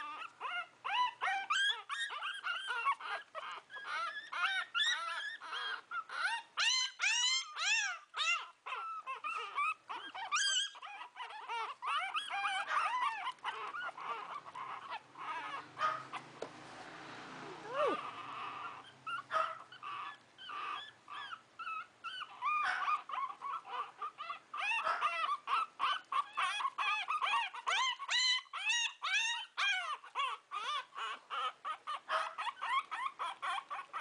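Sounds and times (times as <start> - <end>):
puppies whining and squealing: 0.0 - 34.0.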